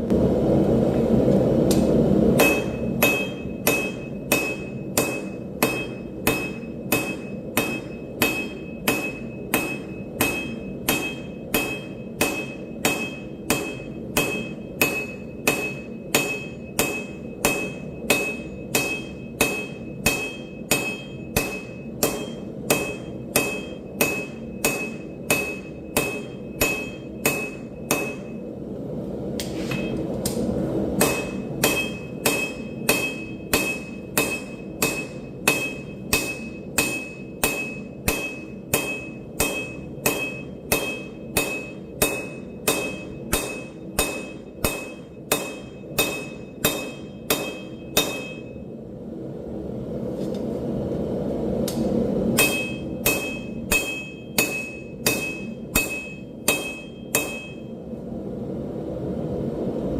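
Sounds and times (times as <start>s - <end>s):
hammer striking steel on anvil: 1.7s - 28.5s, 29.4s - 30.4s, 31.0s - 48.7s, 51.7s - 57.8s.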